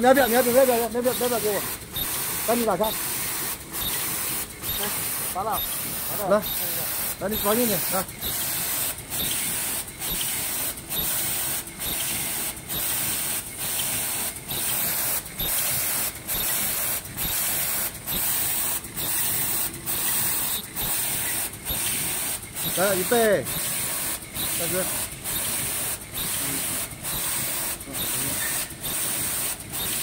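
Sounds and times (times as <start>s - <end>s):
mask machine hissing: 0.0s - 30.0s.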